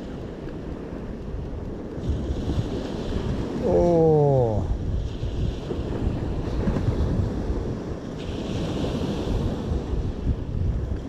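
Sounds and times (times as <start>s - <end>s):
surf on beach: 0.0s - 11.0s
wind buffeting microphone: 0.0s - 11.0s.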